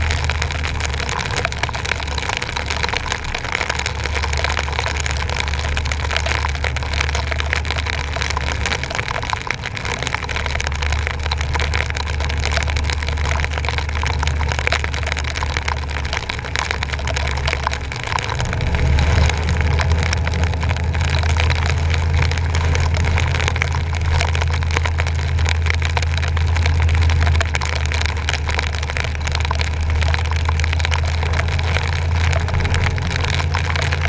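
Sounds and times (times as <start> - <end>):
rain and water spray hiss: 0.0 - 34.0
truck engine droning: 0.0 - 34.0.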